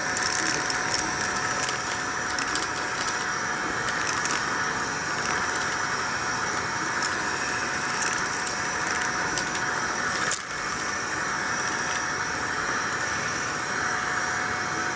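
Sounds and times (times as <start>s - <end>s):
vacuum cleaner whining: 0.0s - 14.9s.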